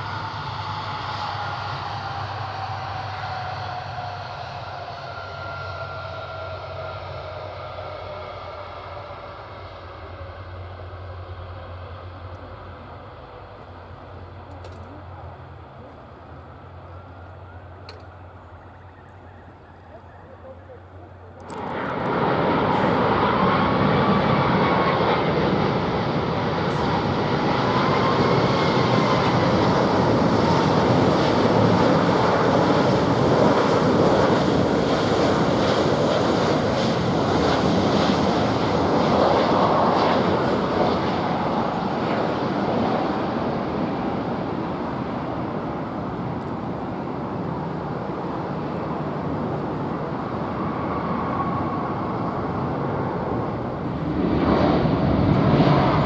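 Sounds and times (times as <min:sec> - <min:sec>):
jet engines rushing and whining: 0:00.0 - 0:56.0.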